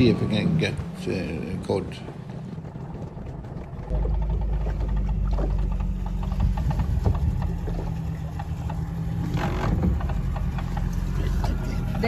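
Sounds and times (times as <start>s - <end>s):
outboard motor droning: 0.0s - 12.0s
light knocks and rattles: 1.9s - 11.9s.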